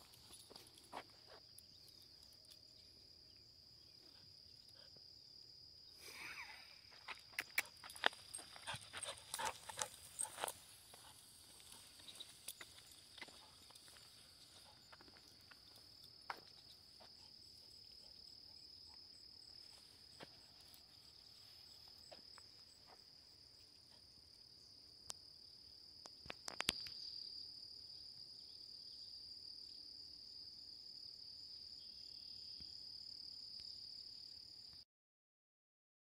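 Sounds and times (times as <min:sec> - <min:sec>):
crickets trilling: 0:00.0 - 0:34.7.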